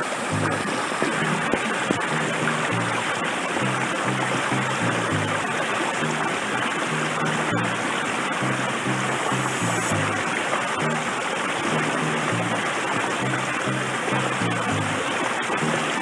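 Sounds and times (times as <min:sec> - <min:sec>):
stream rushing over rocks: 0:00.0 - 0:16.0
pulsing bass notes of music: 0:00.3 - 0:16.0.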